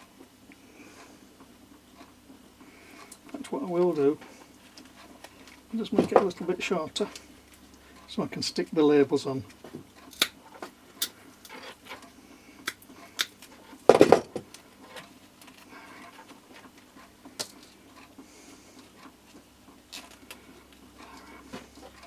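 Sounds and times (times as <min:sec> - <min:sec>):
hands rustling tape and wires: 0:01.9 - 0:08.2, 0:09.3 - 0:22.0.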